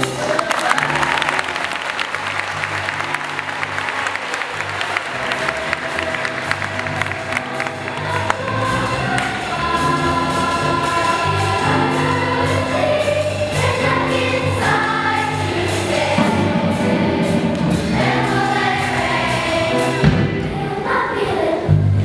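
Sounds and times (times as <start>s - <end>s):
children's choir singing: 0.0s - 22.0s
low accompaniment line: 0.0s - 22.0s.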